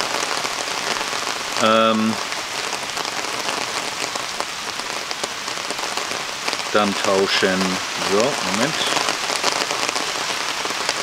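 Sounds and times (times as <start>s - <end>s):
rain falling: 0.0s - 11.0s
raindrops ticking: 0.0s - 11.0s.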